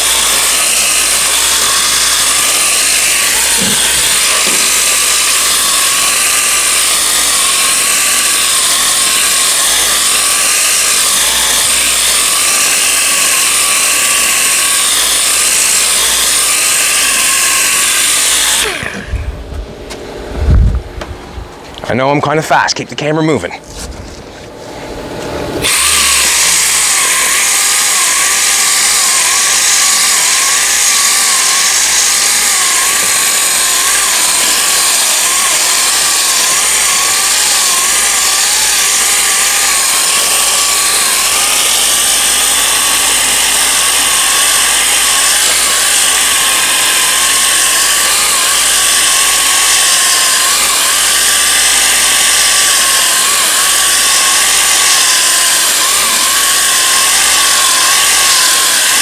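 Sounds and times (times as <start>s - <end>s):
orbital sander whine: 0.0s - 22.3s, 23.0s - 59.0s.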